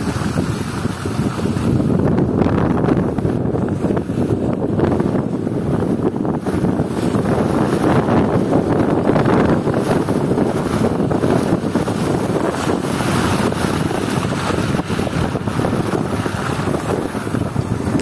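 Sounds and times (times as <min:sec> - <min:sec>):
vehicle engine and tyre noise: 0:00.0 - 0:18.0
wind buffeting microphone: 0:00.0 - 0:18.0.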